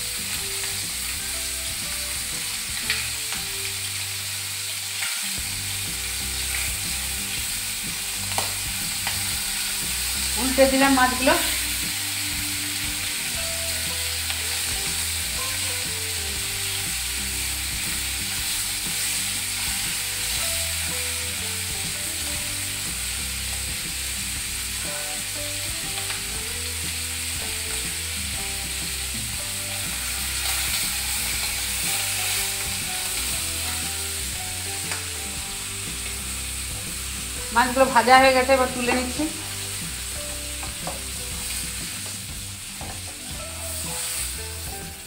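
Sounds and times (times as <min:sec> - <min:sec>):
prawns sizzling in hot oil: 0:00.0 - 0:45.0
spatula turning food: 0:00.2 - 0:45.0.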